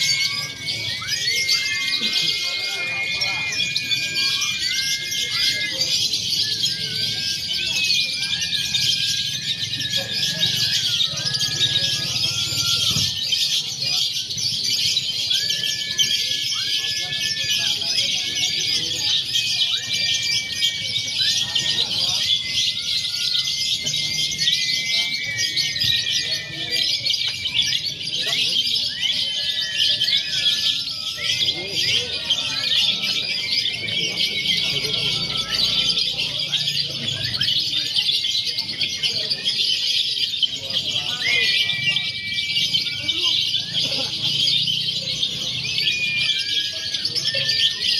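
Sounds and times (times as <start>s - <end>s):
lovebirds twittering: 0.0s - 47.9s
whistled bird notes: 0.0s - 47.9s.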